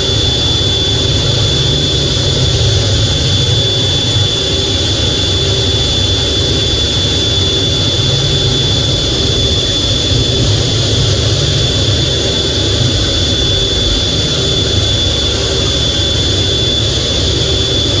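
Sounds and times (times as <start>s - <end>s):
jet engines whining and rumbling: 0.0s - 18.0s.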